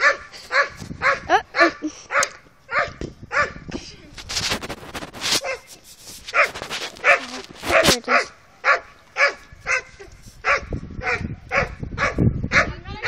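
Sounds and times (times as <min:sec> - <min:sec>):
dog barking: 0:00.0 - 0:03.6, 0:05.4 - 0:05.7, 0:06.3 - 0:12.9.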